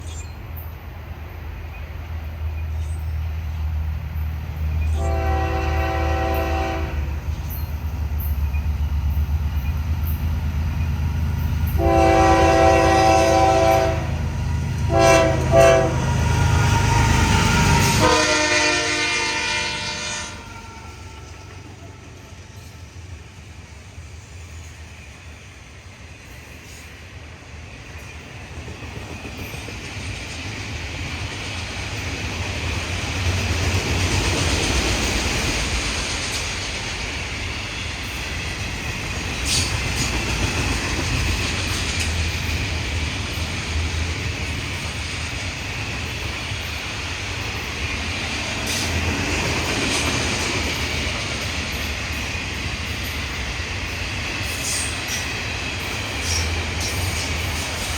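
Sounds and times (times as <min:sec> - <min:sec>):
freight train rumbling: 0:00.0 - 0:57.9.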